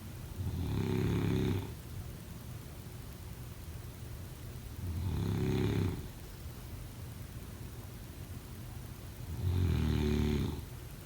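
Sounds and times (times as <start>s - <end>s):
low hum and faint hiss: 0.0s - 11.0s.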